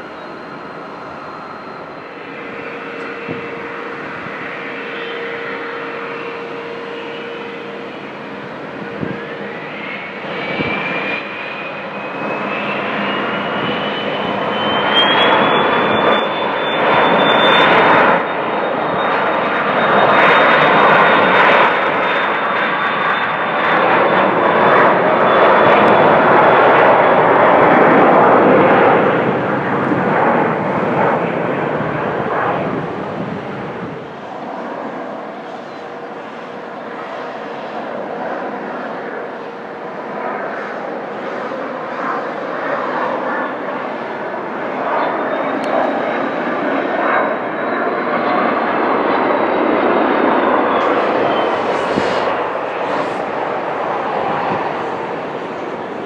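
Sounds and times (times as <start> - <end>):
jet engines spooling up whine: 0.0 - 56.0
jet takeoff roar: 0.0 - 56.0.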